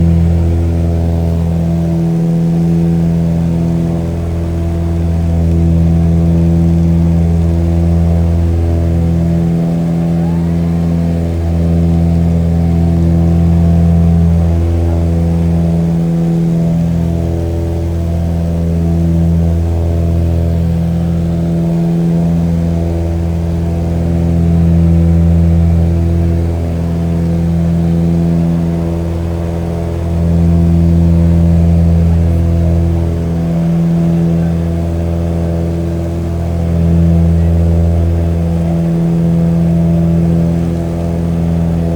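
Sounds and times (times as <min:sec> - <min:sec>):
aircraft engine drone: 0:00.0 - 0:41.9.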